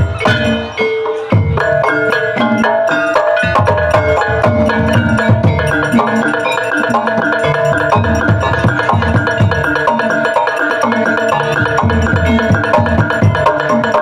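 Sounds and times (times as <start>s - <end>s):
metallophones struck in quick pattern: 0.0s - 14.0s.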